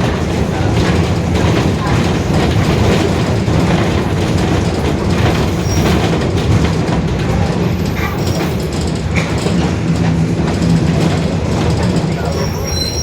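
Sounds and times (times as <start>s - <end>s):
bus differential droning: 0.0s - 13.0s
road and driveline rumble: 0.0s - 13.0s.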